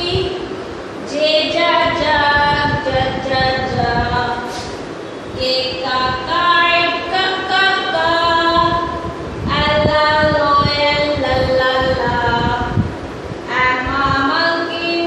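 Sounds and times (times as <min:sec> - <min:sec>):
woman singing: 0:01.1 - 0:04.5, 0:05.4 - 0:12.8, 0:13.5 - 0:15.0.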